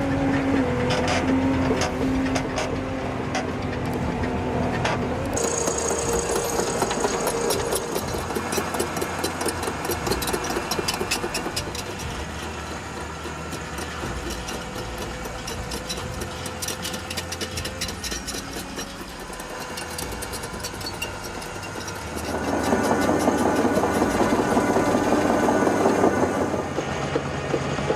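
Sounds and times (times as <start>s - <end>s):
machine engine clattering: 0.0s - 27.9s.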